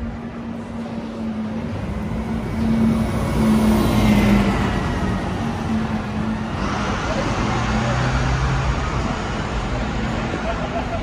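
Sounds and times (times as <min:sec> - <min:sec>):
traffic noise: 0:00.0 - 0:11.0
vehicle engine hum: 0:00.0 - 0:11.0.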